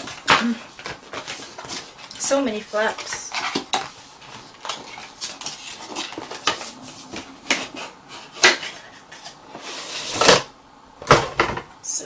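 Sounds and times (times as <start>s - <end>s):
cardboard flaps scraping and rustling: 0.0s - 10.5s.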